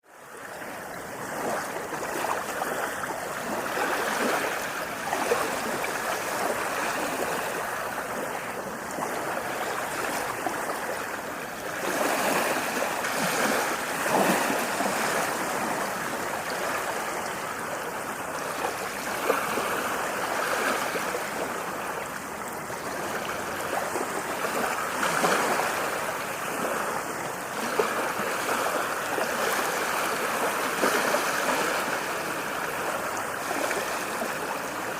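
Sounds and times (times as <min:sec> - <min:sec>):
ocean waves surf: 0:00.0 - 0:34.9.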